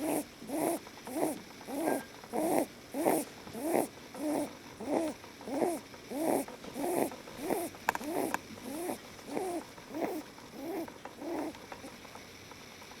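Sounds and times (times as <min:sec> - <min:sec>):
rabbit snoring: 0:00.0 - 0:12.0.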